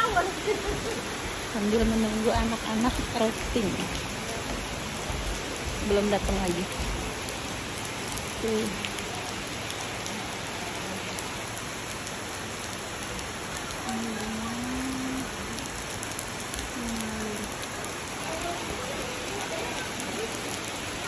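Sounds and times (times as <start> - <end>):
rain on wooden deck and foliage: 0.0 - 21.0.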